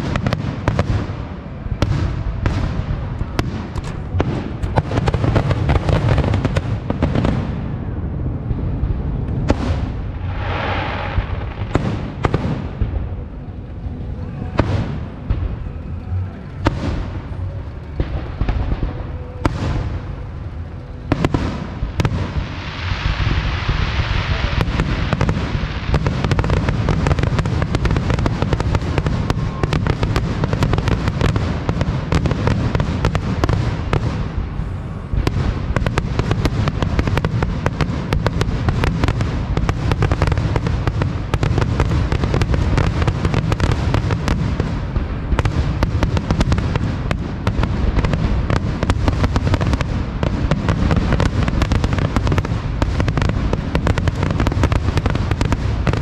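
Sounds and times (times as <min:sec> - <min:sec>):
fireworks booming and crackling: 0:00.0 - 0:56.0.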